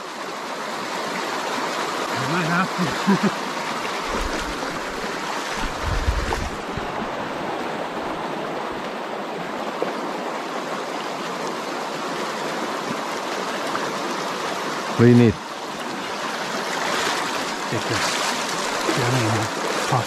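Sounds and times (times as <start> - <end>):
river rushing over riffle: 0.8 - 20.0.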